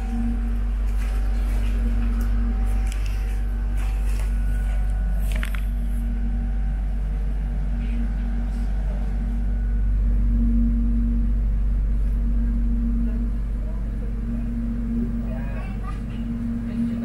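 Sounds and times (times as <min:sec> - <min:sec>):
train equipment electric hum: 0:00.0 - 0:17.0.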